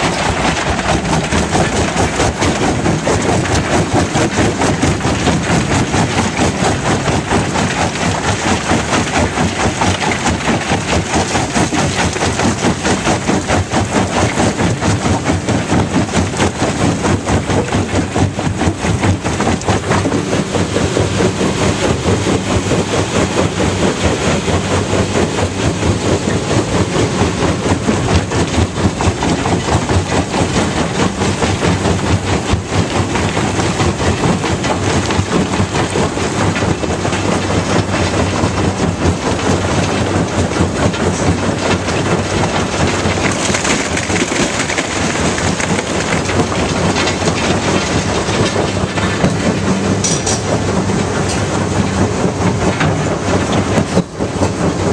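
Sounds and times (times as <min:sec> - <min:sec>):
diesel engine hum: 0:00.0 - 0:54.9
rattling clatter of rock crushing: 0:00.0 - 0:54.9.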